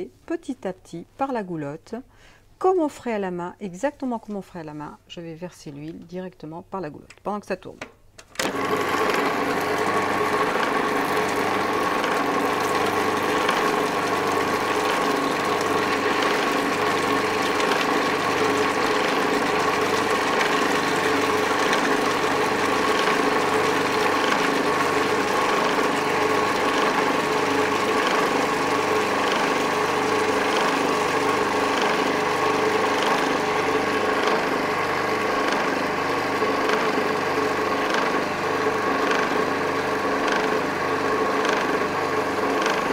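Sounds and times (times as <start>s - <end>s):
food processor motor hum: 8.4s - 42.9s.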